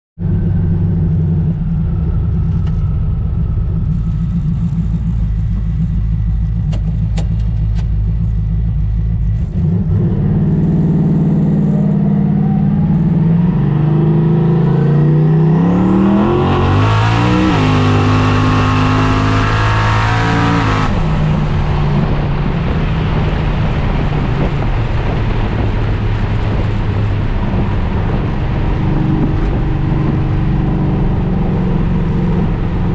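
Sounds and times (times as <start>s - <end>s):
car engine accelerating: 0.2s - 32.9s.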